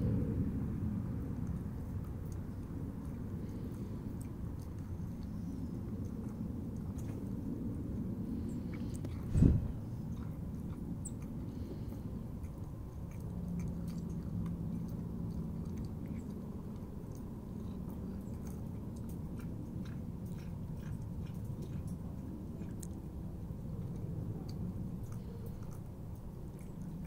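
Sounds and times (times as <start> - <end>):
cat chewing wet food: 0.0 - 27.0.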